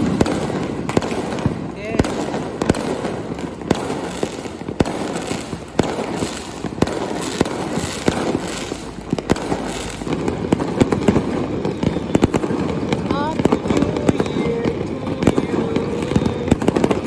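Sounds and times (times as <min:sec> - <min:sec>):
firework shells banging: 0:00.0 - 0:17.0
fireworks crackle: 0:00.0 - 0:17.0.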